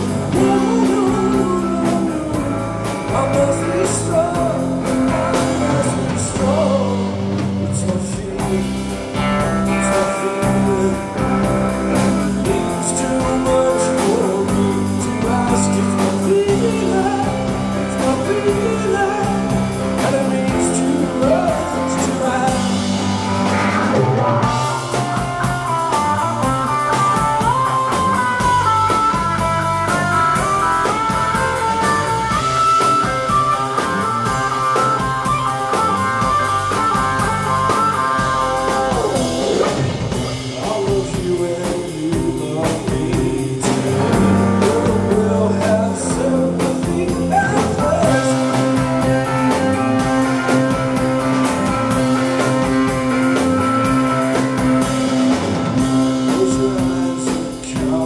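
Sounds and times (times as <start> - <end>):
drum kit: 0.0 - 58.0
electric guitar: 0.0 - 58.0
person singing lead vocal: 0.0 - 58.0.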